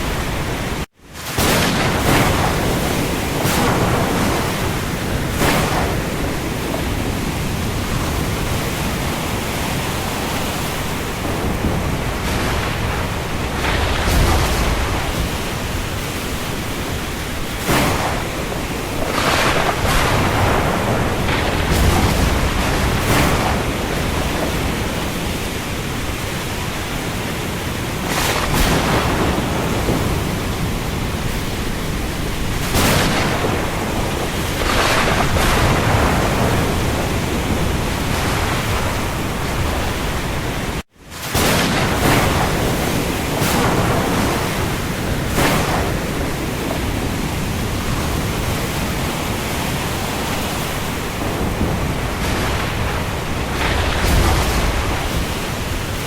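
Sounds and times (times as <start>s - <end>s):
steady rain: 0.0s - 56.0s
waves washing in: 0.0s - 56.0s.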